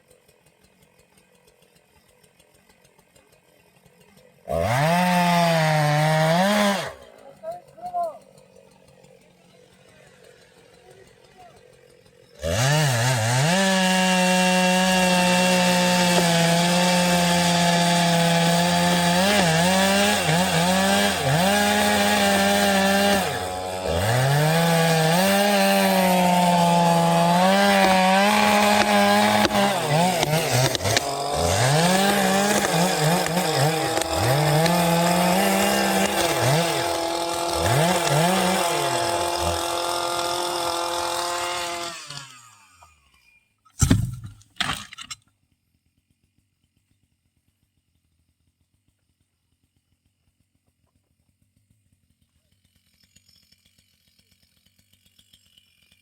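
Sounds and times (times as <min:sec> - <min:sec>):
chainsaw cutting wood: 0:00.0 - 0:45.3, 0:48.7 - 0:56.0.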